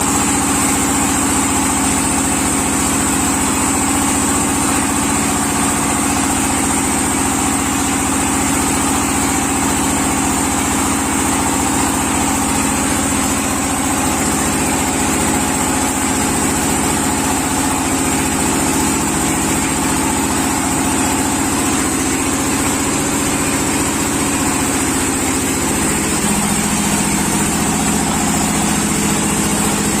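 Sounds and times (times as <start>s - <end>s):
brick press machine humming: 0.0s - 30.0s.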